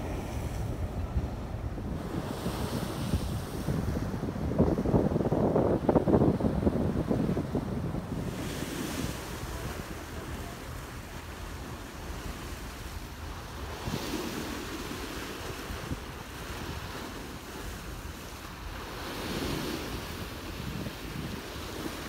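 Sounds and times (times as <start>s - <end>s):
sea waves washing against rocks: 0.0s - 22.0s
wind buffeting microphone: 0.0s - 22.0s.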